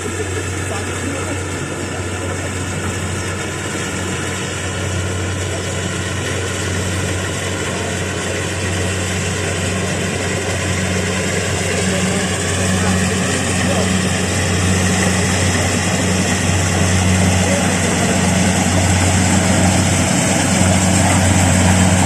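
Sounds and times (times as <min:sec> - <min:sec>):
diesel engine drone: 0:00.0 - 0:22.0
machinery noise: 0:00.0 - 0:22.0.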